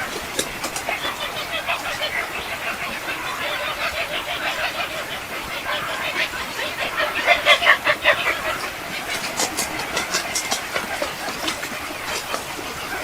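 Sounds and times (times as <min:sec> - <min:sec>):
many birds chattering: 0:00.0 - 0:13.0.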